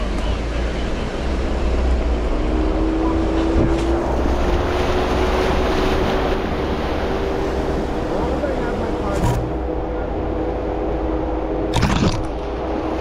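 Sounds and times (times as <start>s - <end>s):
vehicle engine rumble: 0.0s - 13.0s
wind and road noise: 0.0s - 13.0s.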